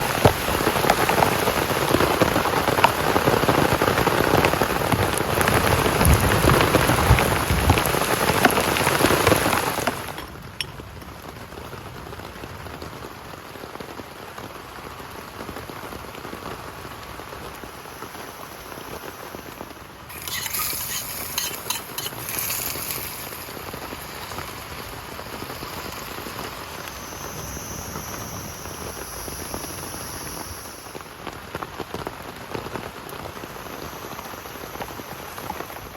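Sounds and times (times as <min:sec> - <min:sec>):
heavy rain falling: 0:00.0 - 0:35.9.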